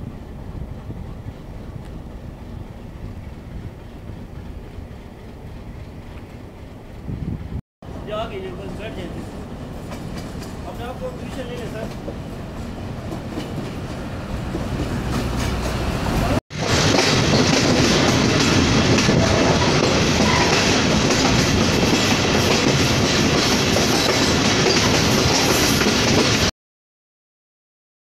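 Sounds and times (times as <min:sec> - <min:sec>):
diesel train approaching: 0:00.0 - 0:26.5
train wheels rumbling on rails: 0:00.0 - 0:26.5.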